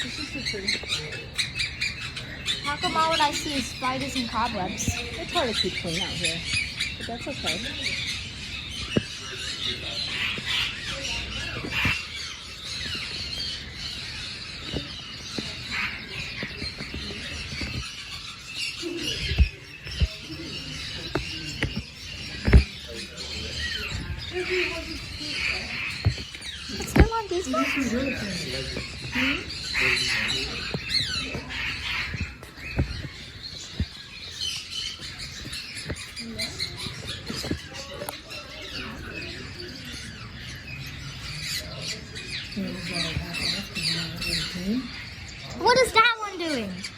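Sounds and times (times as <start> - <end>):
caged birds chirping and squawking: 0.0 - 46.9.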